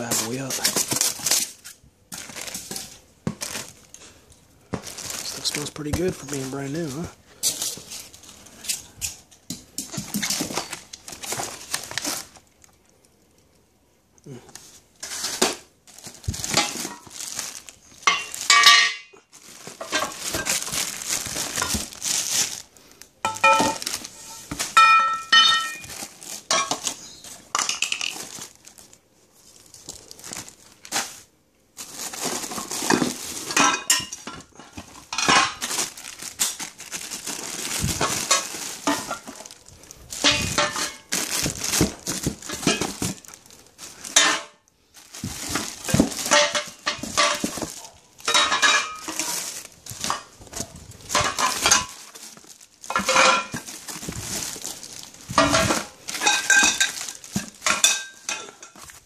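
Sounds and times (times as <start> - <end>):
plastic wrapping crinkling: 0.0 - 13.8, 14.4 - 59.0.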